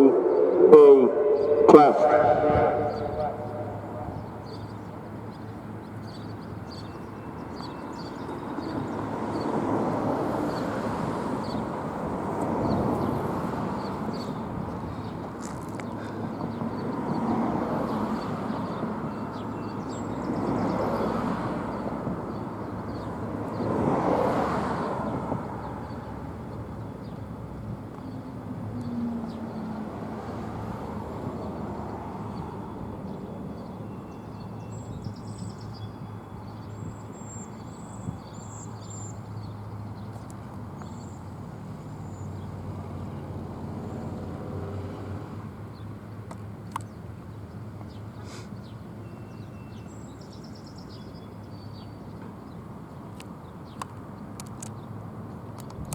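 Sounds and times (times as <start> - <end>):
traffic hum: 0.0 - 49.2, 51.3 - 55.9
vehicles passing: 0.0 - 55.9.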